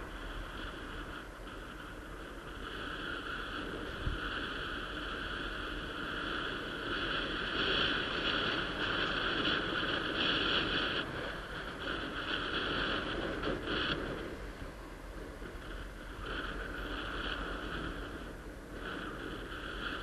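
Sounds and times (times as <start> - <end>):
e-scooter road noise: 0.0 - 20.0.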